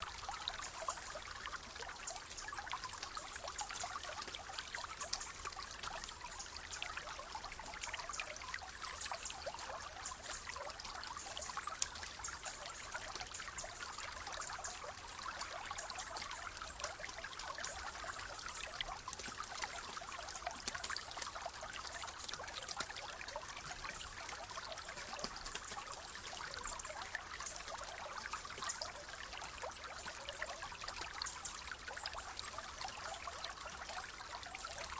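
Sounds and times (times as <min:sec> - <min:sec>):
stream trickling over stones: 0:00.0 - 0:34.9.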